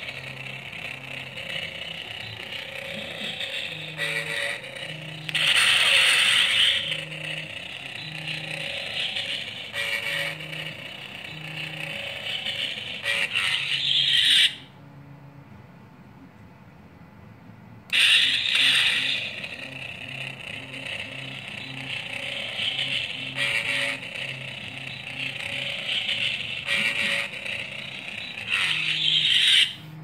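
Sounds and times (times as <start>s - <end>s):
crackling lightsaber hum: 0.0s - 14.8s, 17.8s - 30.0s.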